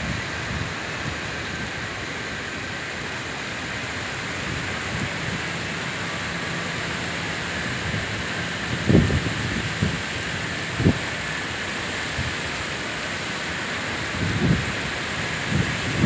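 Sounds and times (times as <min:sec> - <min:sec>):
steady rain: 0:00.0 - 0:16.0
strong wind: 0:00.0 - 0:16.0
wind rumbling on microphone: 0:00.0 - 0:16.0.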